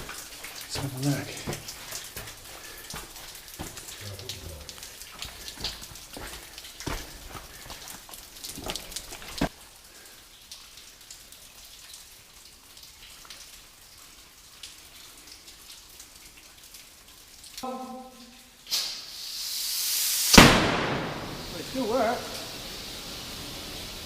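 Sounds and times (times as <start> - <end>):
water dripping and splashing: 0.0 - 24.0.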